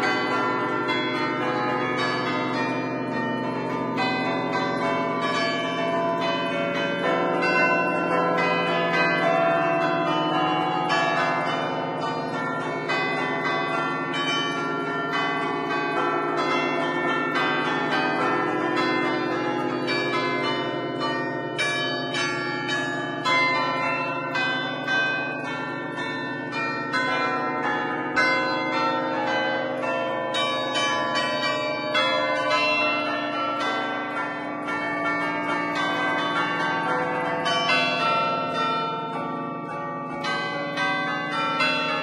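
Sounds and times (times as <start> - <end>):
church bells playing fast melody: 0.0 - 42.0.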